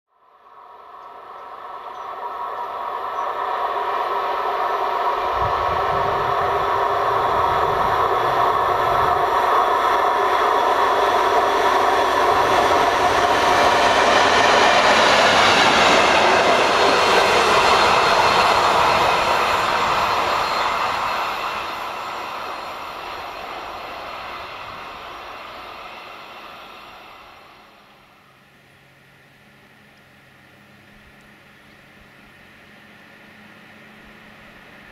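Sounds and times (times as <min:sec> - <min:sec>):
diesel locomotive passing: 0:00.2 - 0:34.9.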